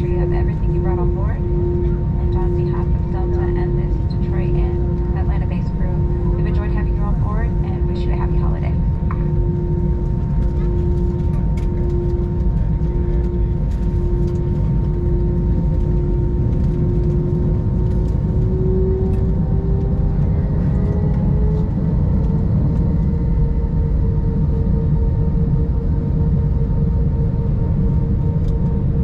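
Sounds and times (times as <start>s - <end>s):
airplane cabin rumble: 0.0s - 29.0s
jet engine whine: 0.0s - 29.0s.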